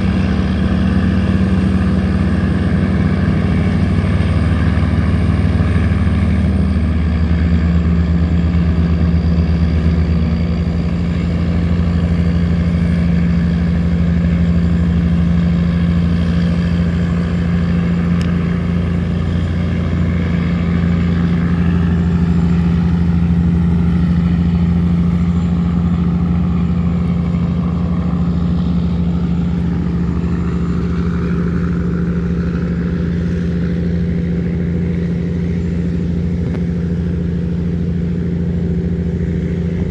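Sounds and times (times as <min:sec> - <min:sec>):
boat diesel engine running: 0:00.0 - 0:39.9.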